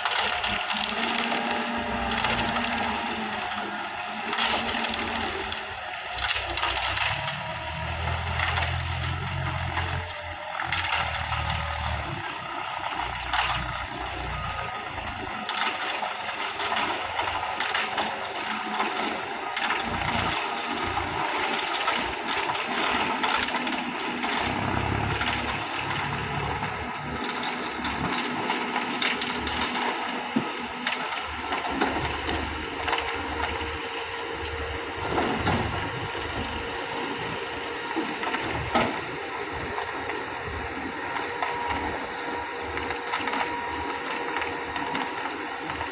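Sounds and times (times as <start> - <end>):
diesel engine rumble: 0.0 - 45.9.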